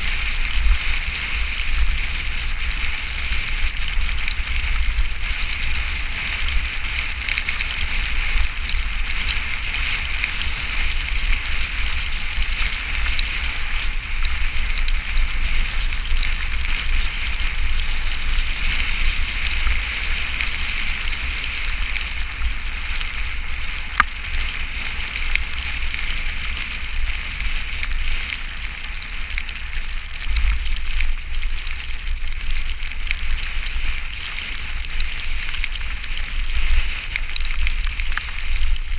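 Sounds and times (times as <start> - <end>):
rain hissing with wet spray: 0.0 - 38.9.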